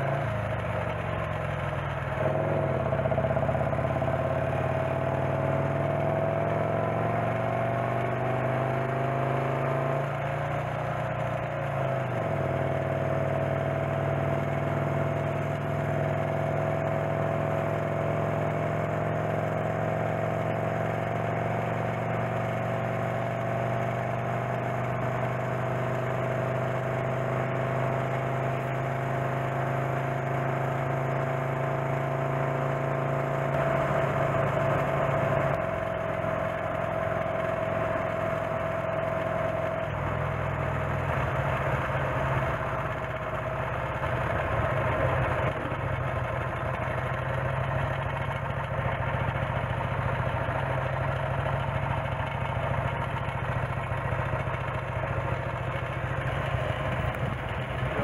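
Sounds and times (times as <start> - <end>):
motorcycle engine running: 0.0 - 58.0
road and wind noise: 0.0 - 58.0.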